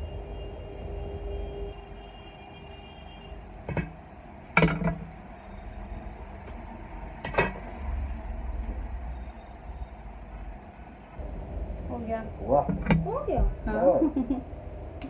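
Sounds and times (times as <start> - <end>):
pedestal fan running: 0.0 - 15.0.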